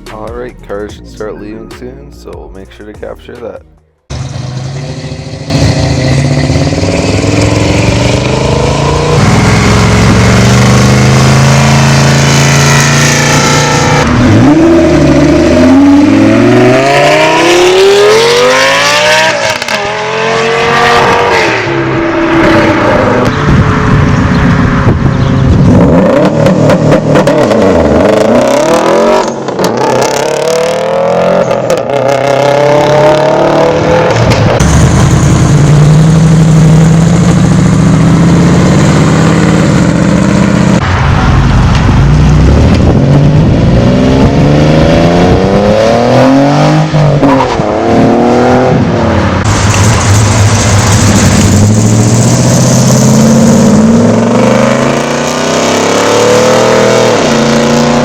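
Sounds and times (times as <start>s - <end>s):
car engines revving: 4.1s - 58.0s.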